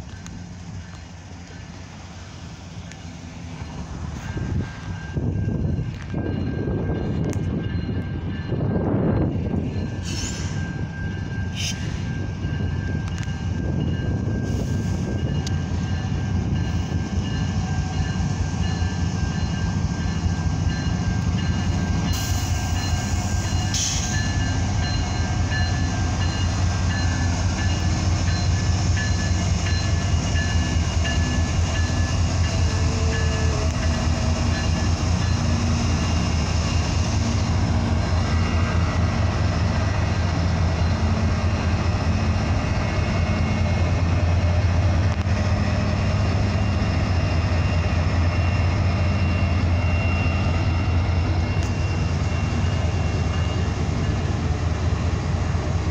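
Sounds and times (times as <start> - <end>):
diesel locomotives passing: 0.0 - 55.9.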